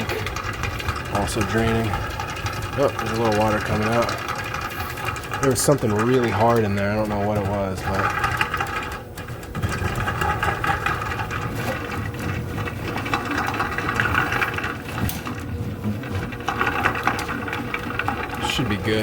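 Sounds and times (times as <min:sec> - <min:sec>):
drain snake motor humming: 0:00.0 - 0:19.0.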